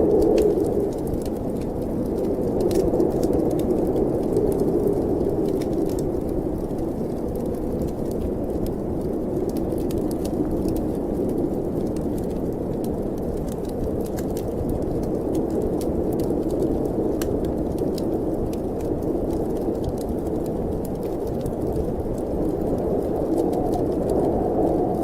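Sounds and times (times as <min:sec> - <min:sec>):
wind blowing: 0:00.0 - 0:11.8, 0:12.6 - 0:25.0
fireplace crackling: 0:00.0 - 0:25.0.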